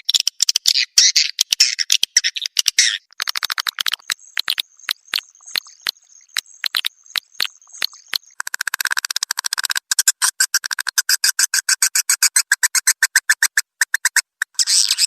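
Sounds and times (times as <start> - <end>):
swiftlet echolocation clicks: 1.4 - 14.6.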